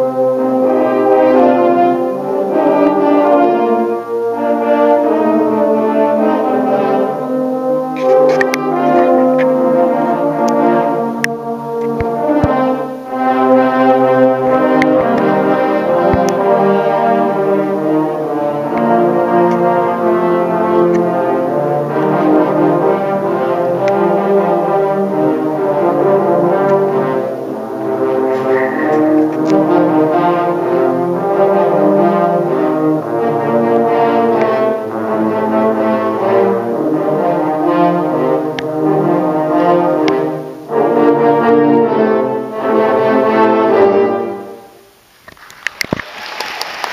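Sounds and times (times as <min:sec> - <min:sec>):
brass ensemble playing chords: 0:00.0 - 0:45.1.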